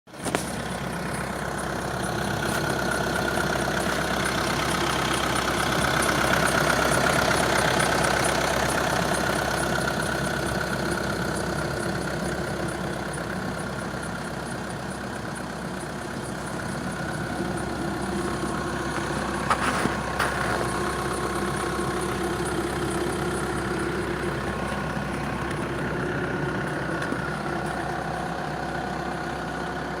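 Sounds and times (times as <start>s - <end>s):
diesel engine idling: 0.1s - 30.0s
engine squeal: 0.3s - 29.9s.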